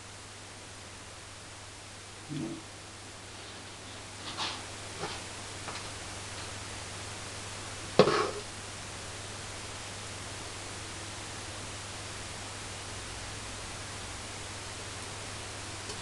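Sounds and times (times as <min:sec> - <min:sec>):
low even hum: 0:00.0 - 0:16.0
steady hiss: 0:00.0 - 0:16.0.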